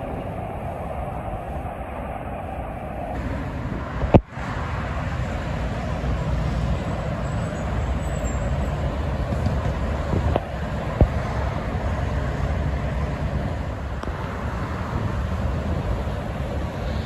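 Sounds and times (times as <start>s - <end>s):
highway traffic passing: 0.0s - 17.0s.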